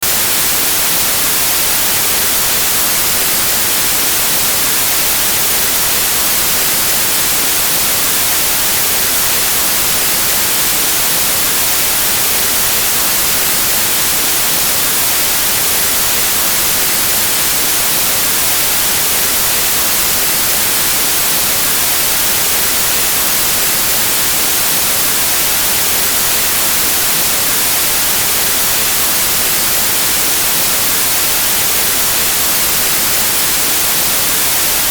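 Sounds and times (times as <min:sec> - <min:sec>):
white noise static hiss: 0:00.0 - 0:34.9.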